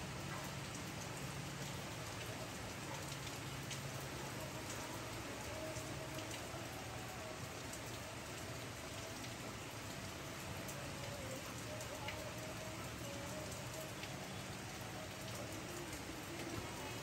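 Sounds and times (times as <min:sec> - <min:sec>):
rain falling on wet concrete: 0:00.0 - 0:17.0.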